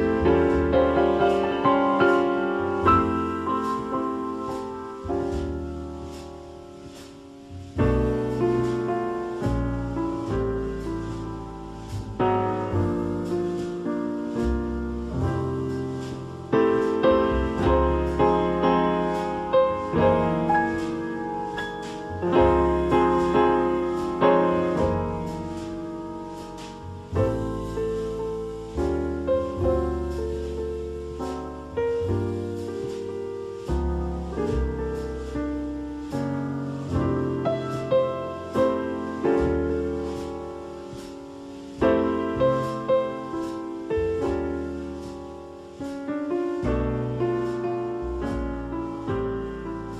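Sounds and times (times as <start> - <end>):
solo piano playing: 0.0 - 49.9.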